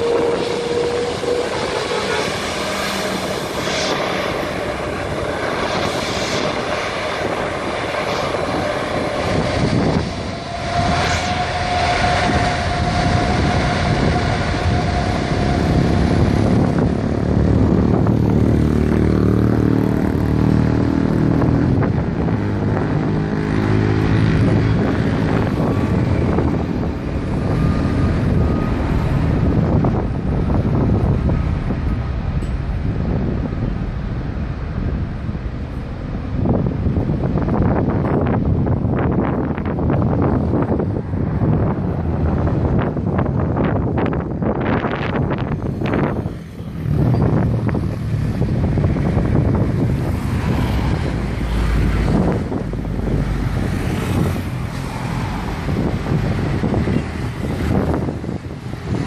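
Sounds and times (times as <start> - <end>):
jet engines rumbling: 0.0 - 59.0
steady engine whine: 0.0 - 59.0.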